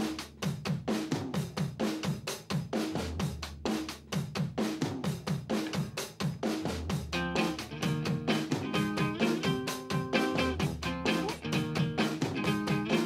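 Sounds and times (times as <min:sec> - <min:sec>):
fast drum kit beat: 0:00.0 - 0:13.0.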